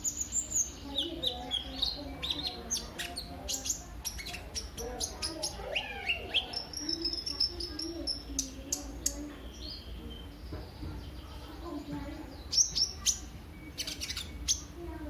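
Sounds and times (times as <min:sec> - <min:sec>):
bird singing fast chirps and warble: 0:00.0 - 0:15.0.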